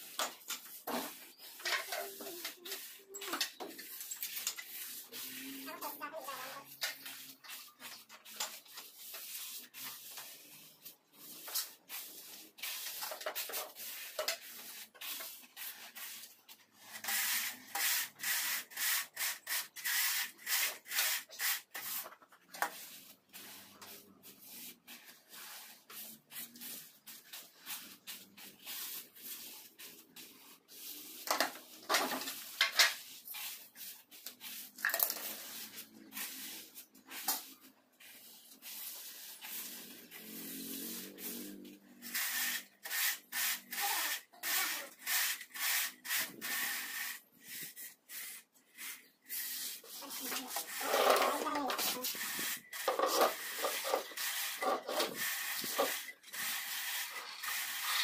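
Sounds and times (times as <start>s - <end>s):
trowel scraping wet mortar: 0.0s - 58.0s.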